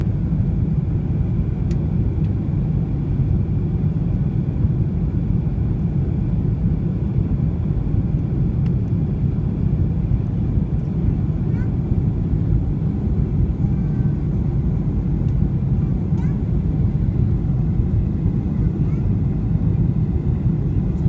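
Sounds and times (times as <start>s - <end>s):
jet airliner rumble: 0.0s - 21.0s.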